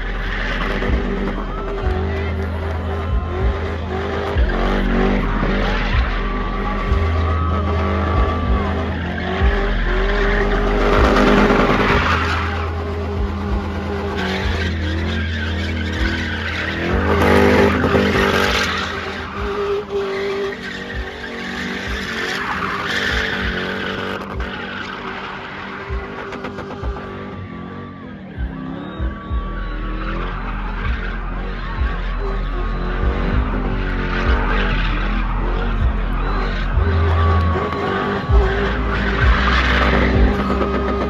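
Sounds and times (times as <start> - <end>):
car engine at high revs: 0.0 - 41.0
tyres spinning and skidding: 0.0 - 41.0.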